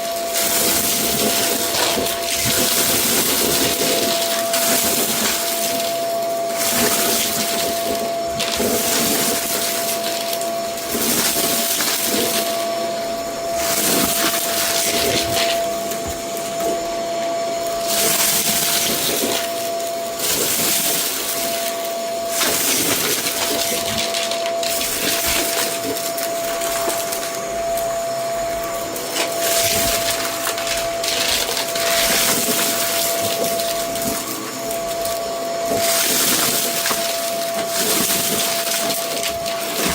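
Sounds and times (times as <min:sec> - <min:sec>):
vacuum cleaner on a rug: 0:00.0 - 0:39.9.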